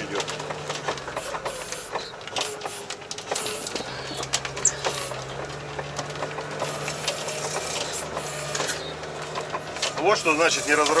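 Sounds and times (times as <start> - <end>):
small clicks and rattles: 0.0 - 11.0
vehicle engine hum: 0.0 - 11.0.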